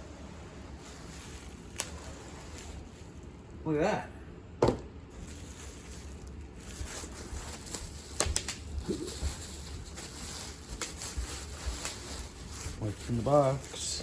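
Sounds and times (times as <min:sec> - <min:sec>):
packaging rustling and scraping: 0:00.7 - 0:03.4, 0:05.1 - 0:14.0.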